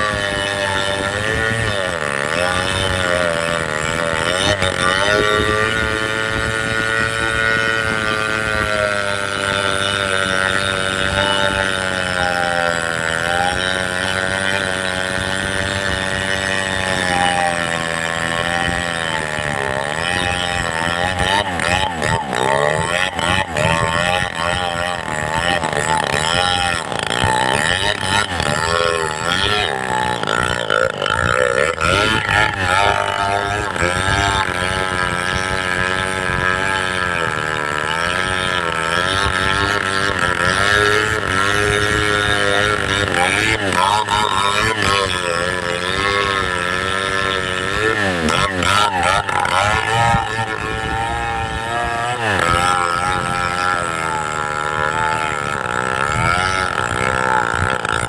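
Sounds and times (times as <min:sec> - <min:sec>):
chainsaw running at high revs: 0:00.0 - 0:58.0.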